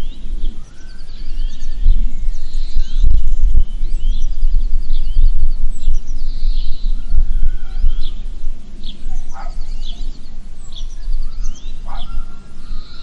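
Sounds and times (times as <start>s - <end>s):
birds chirping and calling: 0.0s - 13.0s
loud low rumble: 0.0s - 13.0s.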